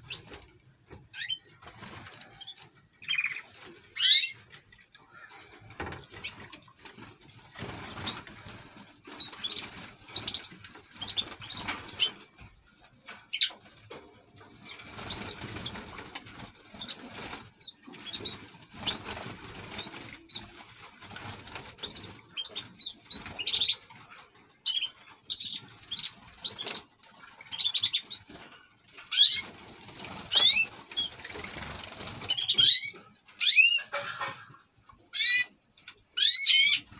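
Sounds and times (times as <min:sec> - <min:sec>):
wings fluttering: 0:00.0 - 0:36.9.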